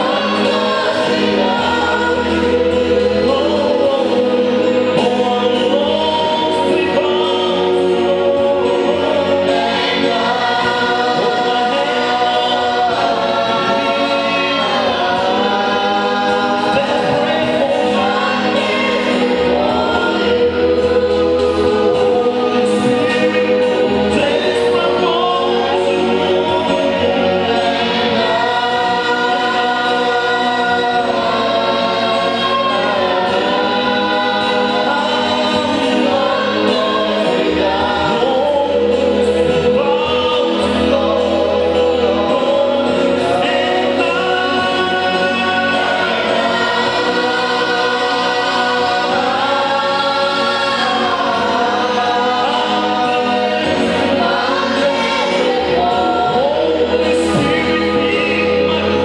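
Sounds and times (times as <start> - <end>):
choir singing gospel song: 0.0 - 59.0
instrumental backing with bass: 0.0 - 59.0.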